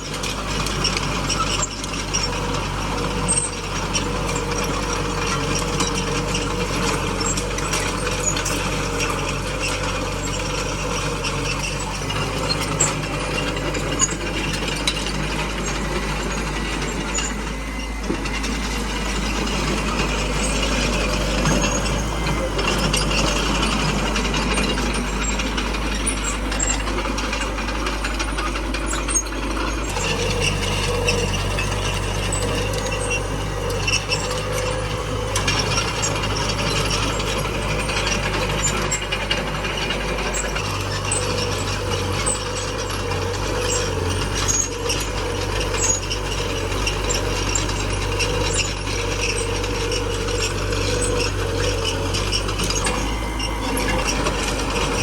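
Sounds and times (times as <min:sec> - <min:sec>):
bulldozer diesel engine running: 0:00.0 - 0:55.0
metallic clatter of tracks: 0:00.0 - 0:55.0.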